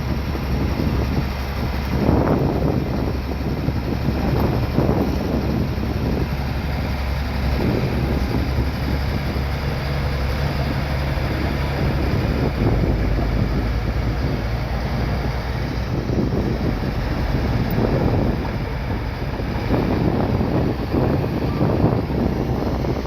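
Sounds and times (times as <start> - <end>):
bulldozer diesel engine running: 0.0 - 23.0
wind buffeting microphone: 0.0 - 23.0.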